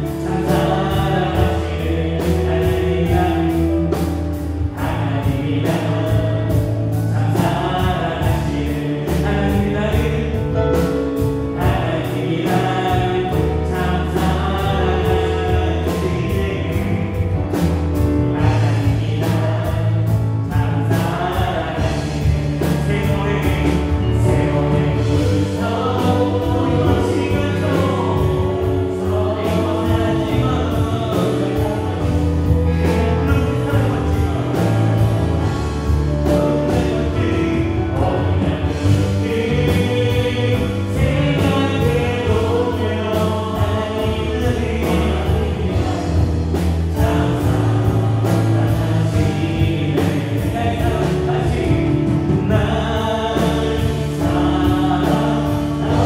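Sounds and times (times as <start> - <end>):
drum kit: 0.0 - 56.0
electric bass: 0.0 - 56.0
synth keyboards: 0.0 - 56.0.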